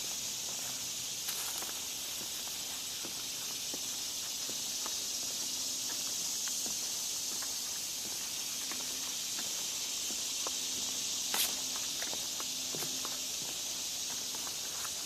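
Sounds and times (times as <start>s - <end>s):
footsteps on trail: 0.0s - 15.0s
high-pitched insect chorus: 0.0s - 15.0s.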